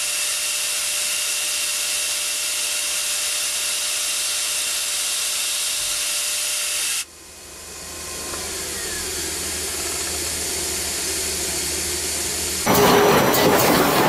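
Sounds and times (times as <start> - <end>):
machine hum with faint whining: 0.0 - 14.0
metalworking machine hissing: 0.0 - 14.0.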